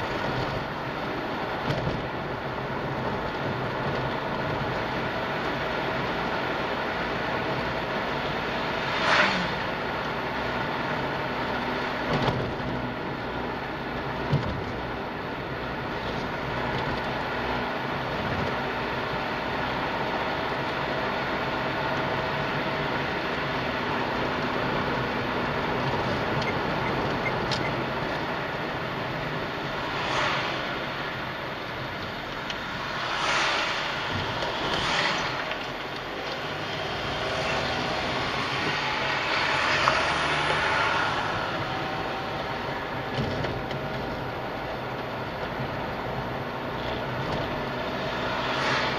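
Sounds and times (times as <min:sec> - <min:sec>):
car engine and tyre noise: 0:00.0 - 0:48.9.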